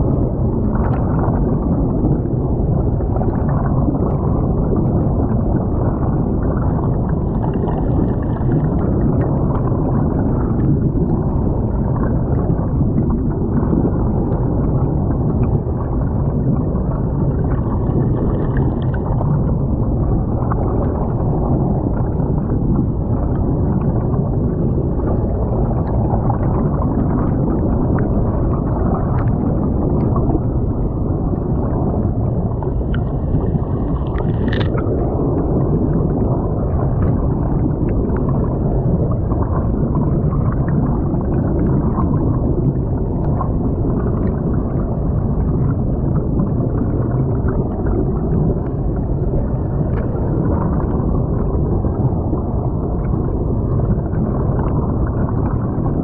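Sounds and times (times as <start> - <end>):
air bubbles: 0.0 - 56.0
muffled underwater creek rush: 0.0 - 56.0.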